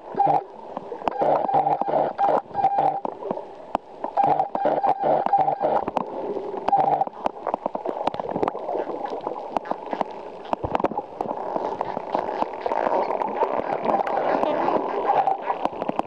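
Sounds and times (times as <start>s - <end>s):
muffled rushing water underwater: 0.0s - 16.0s.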